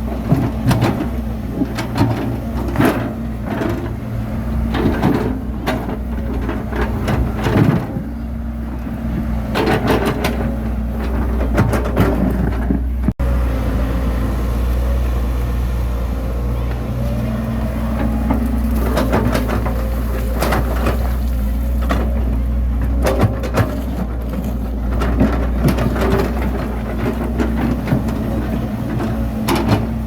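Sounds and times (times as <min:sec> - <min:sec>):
bulldozer diesel engine humming: 0:00.0 - 0:30.0.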